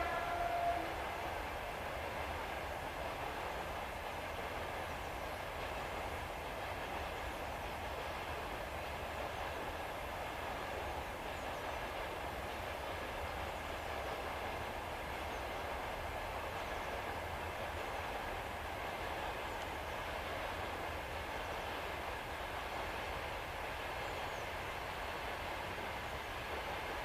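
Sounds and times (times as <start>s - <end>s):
train running: 0.0s - 27.0s.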